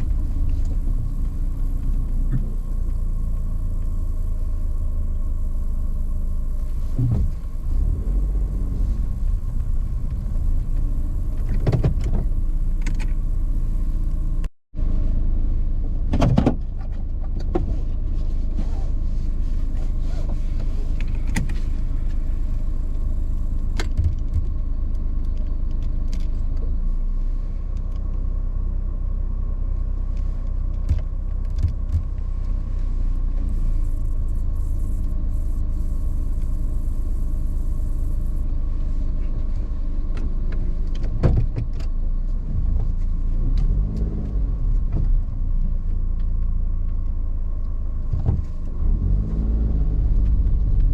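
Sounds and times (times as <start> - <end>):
car driving low rumble: 0.0 - 50.9.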